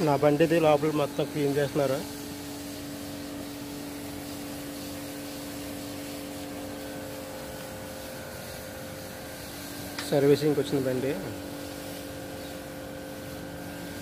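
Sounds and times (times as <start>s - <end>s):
even hiss: 0.0s - 14.0s.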